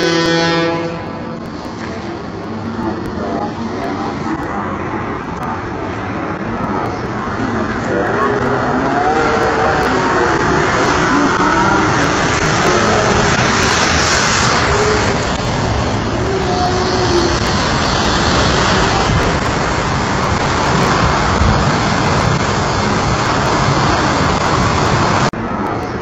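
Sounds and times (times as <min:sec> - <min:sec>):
train rushing through floodwater: 0:00.0 - 0:26.0.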